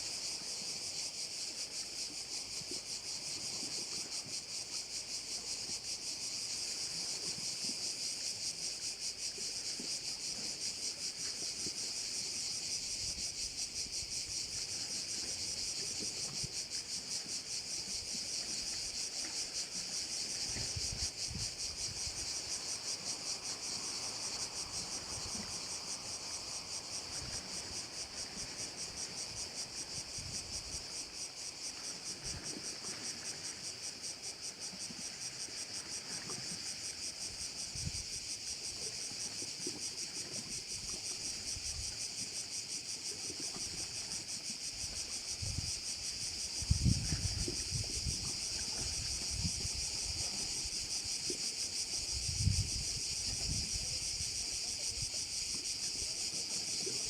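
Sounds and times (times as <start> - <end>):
insects buzzing chorus: 0.0 - 57.0.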